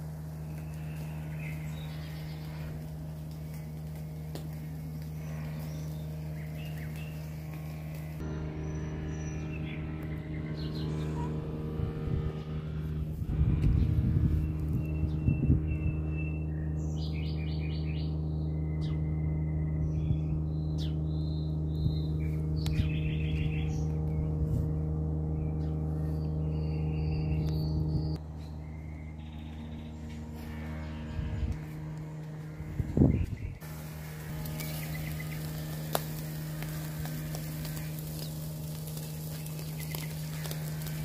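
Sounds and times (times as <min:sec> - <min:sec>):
low rumbling noise: 0:00.0 - 0:41.0
small birds chirping: 0:00.0 - 0:41.0
steady low hum: 0:00.0 - 0:41.0.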